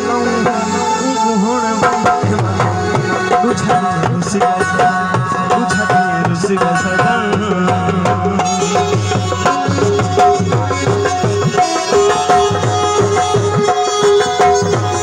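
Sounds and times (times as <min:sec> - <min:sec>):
hand drums playing: 0:00.0 - 0:15.0
harmonium and keyboard notes: 0:00.0 - 0:15.0.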